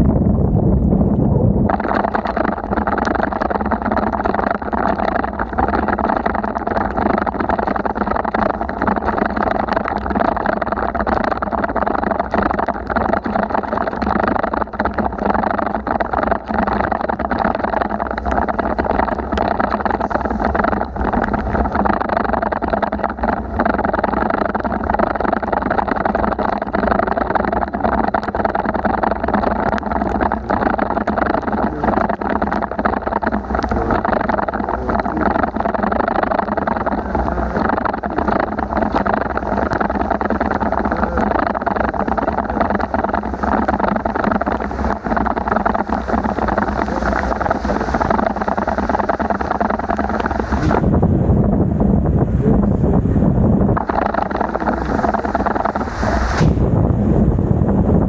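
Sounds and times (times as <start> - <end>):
wind and rain on microphone: 0.0 - 58.0.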